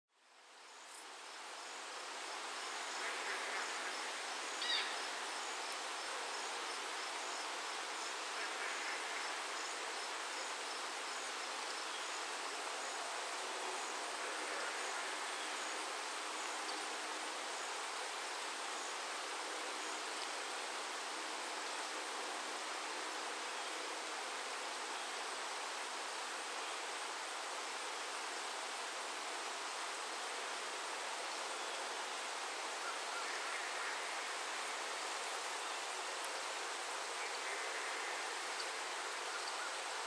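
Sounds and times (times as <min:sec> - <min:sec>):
steady rain falling: 0:00.2 - 0:40.0.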